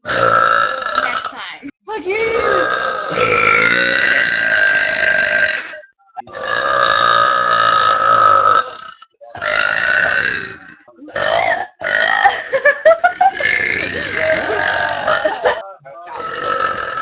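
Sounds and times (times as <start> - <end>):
girl belching loudly: 0.0 - 1.6, 2.2 - 12.4, 13.0 - 15.5, 16.1 - 17.0.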